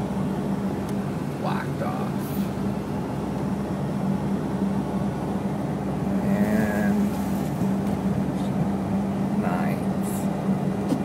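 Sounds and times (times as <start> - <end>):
car engine hum: 0.0 - 11.0
road noise inside car: 0.0 - 11.0.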